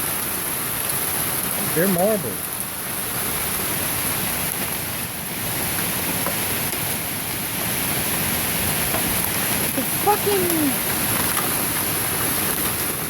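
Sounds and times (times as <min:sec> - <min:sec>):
hail and rain hissing: 0:00.0 - 0:13.0
hailstones ticking: 0:00.0 - 0:13.0.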